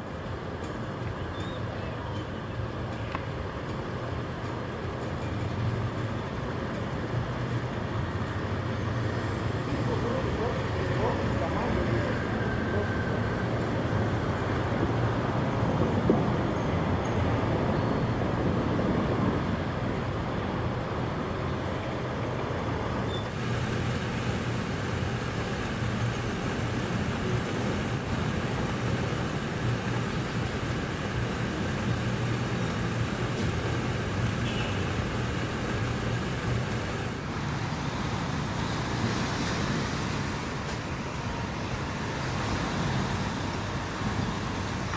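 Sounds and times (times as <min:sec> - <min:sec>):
passing cars and motorbikes: 0:00.0 - 0:44.9
road traffic: 0:00.0 - 0:44.9.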